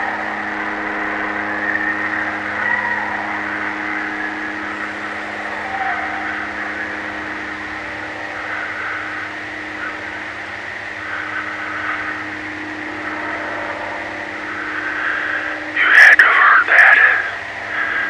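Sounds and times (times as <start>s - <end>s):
low constant drone: 0.0s - 18.0s
night swamp chorus: 0.0s - 18.0s.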